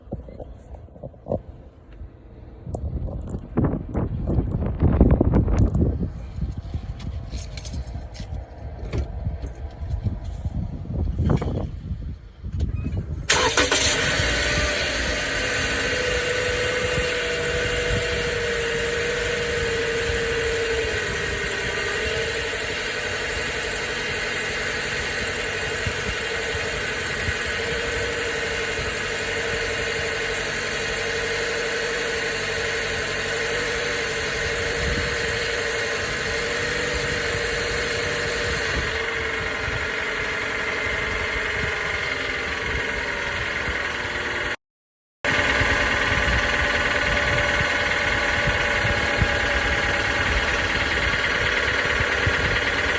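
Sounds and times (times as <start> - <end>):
car engine starting and idling: 5.6 - 44.6, 45.3 - 52.9.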